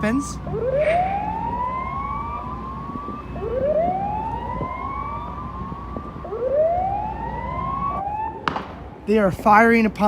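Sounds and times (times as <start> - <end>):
boat siren wailing: 0.0 - 8.4.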